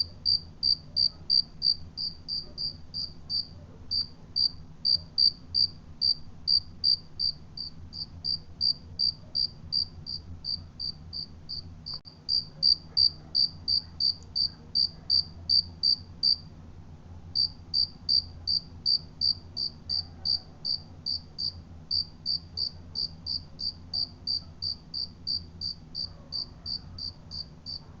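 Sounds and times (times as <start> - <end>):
cricket chirping: 0.0 - 16.4, 17.4 - 27.9.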